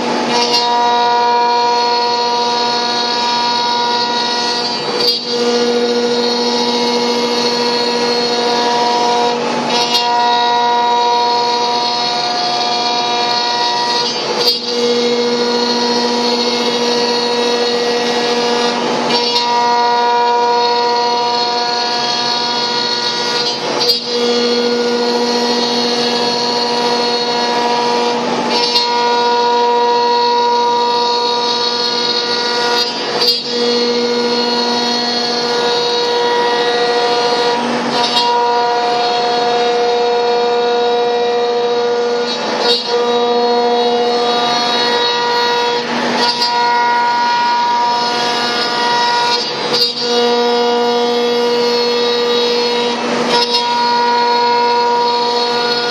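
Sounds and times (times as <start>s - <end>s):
router spindle whine: 0.0s - 55.9s.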